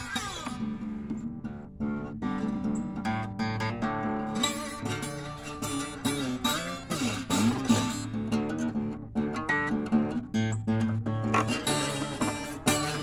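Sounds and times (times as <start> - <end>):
acoustic guitar plucked and strummed: 0.0 - 13.0.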